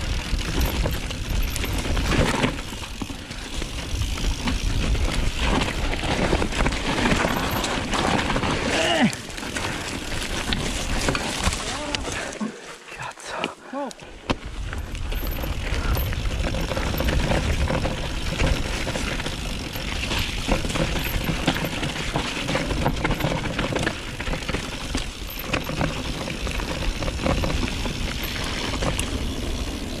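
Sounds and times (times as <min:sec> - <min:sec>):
bike knocks and rattles: 0:00.0 - 0:12.0, 0:14.2 - 0:30.0.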